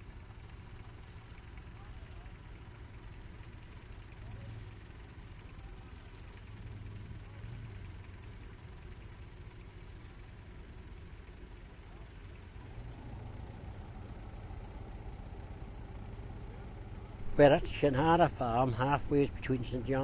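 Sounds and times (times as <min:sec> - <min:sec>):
tractor engines rumbling: 0:00.0 - 0:20.0.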